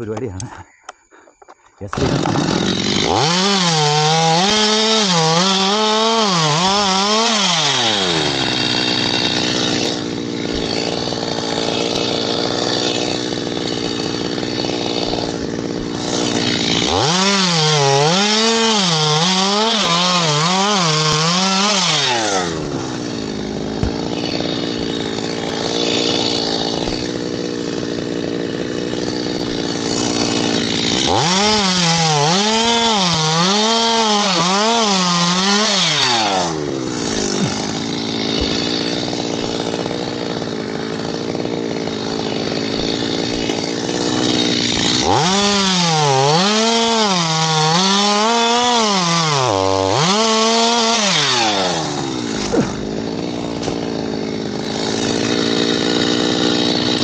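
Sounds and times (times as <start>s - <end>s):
chainsaw cutting wood: 1.8s - 57.0s.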